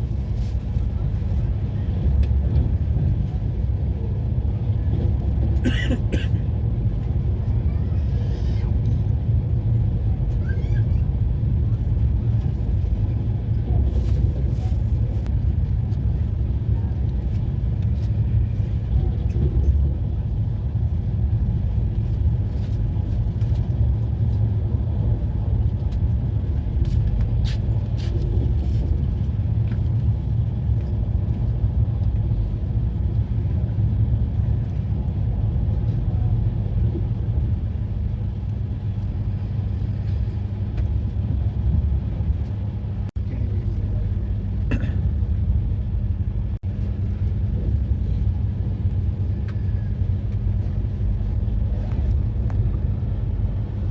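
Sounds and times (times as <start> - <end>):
train rumbling along track: 0.0 - 53.9.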